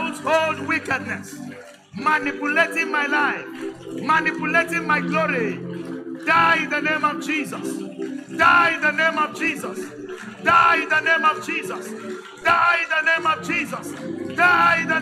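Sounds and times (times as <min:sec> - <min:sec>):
held keyboard chords: 0:00.0 - 0:15.0.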